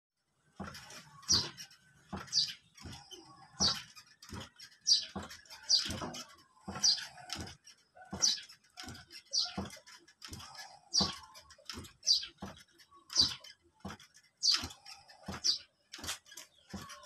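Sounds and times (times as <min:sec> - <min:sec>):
wooden rocking chair creaking: 0:00.2 - 0:17.0.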